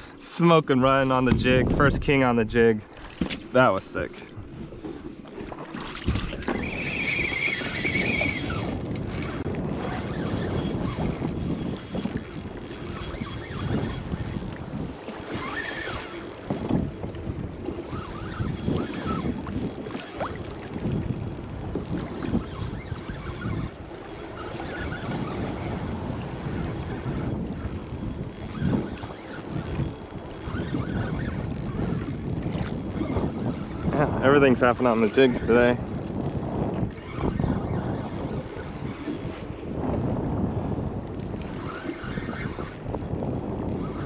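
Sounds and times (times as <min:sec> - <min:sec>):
wind buffeting microphone: 0:00.0 - 0:44.0
water splashing against kayak hull: 0:02.8 - 0:44.0.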